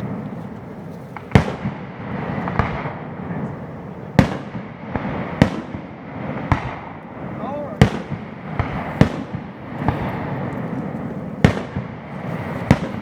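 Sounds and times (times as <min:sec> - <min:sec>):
faint firework pops: 0:00.0 - 0:07.0, 0:07.8 - 0:13.0
fireworks booming: 0:00.0 - 0:13.0.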